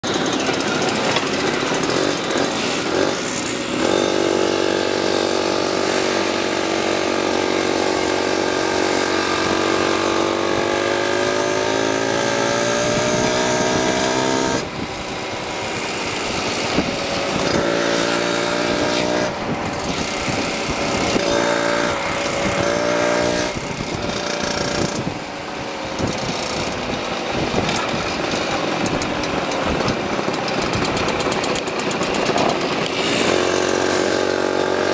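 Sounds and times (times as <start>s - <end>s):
two-stroke moped engines running: 0.0s - 34.9s.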